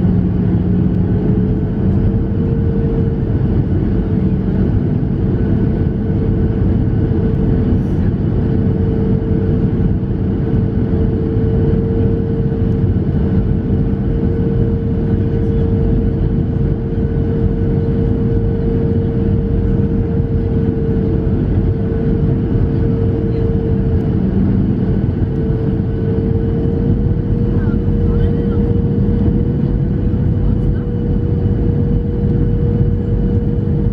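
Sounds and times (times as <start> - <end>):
aircraft cabin engine noise: 0.0 - 33.9.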